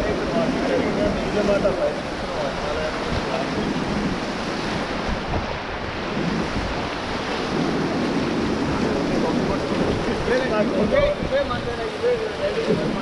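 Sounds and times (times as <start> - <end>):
whitewater roaring: 0.0 - 13.0
wind buffeting microphone: 0.0 - 13.0.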